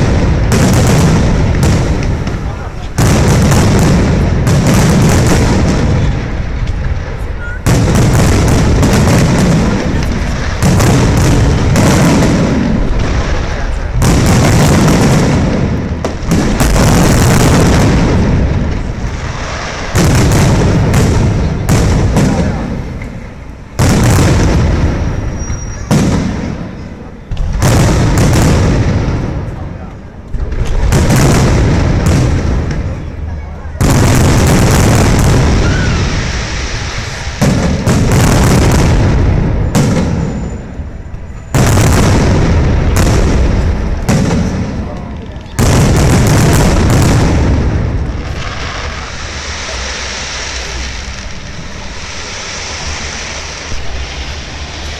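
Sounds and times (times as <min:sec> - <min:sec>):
fireworks booming: 0:00.0 - 0:54.9
fireworks crackle: 0:00.0 - 0:54.9.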